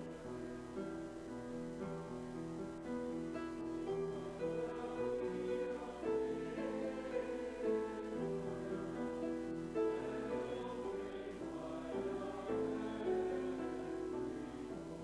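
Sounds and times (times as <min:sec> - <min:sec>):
congregation singing: 0:00.0 - 0:15.0.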